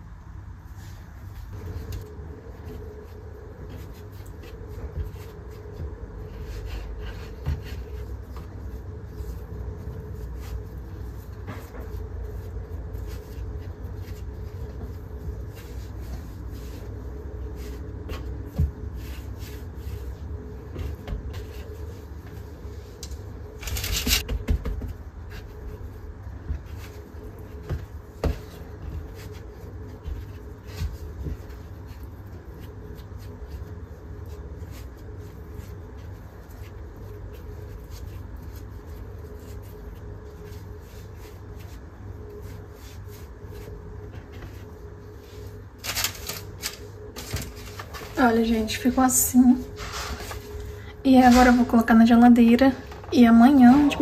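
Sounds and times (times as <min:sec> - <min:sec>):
steady low hum: 0:00.0 - 0:54.0
dough handling taps and rubbing: 0:01.5 - 0:48.2.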